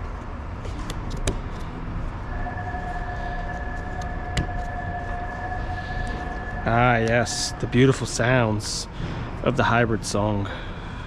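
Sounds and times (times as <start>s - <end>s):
steady background noise: 0.0s - 11.0s
two-tone electronic hum: 1.4s - 11.0s.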